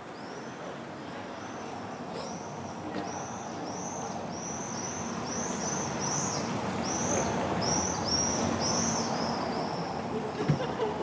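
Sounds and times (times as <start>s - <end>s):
street noise hum: 0.0s - 11.0s.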